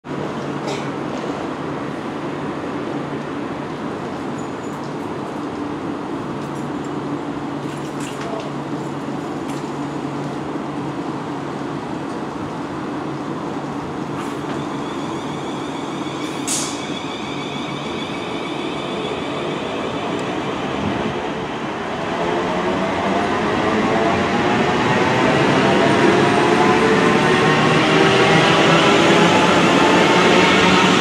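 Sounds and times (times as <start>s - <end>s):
train rumble and hum: 0.1s - 31.0s.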